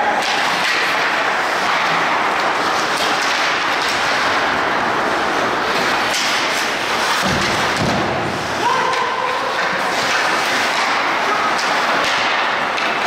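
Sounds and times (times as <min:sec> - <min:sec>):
skates on ice: 0:00.0 - 0:13.0
spectators' voices: 0:00.0 - 0:13.0
stick hitting puck: 0:00.0 - 0:13.0.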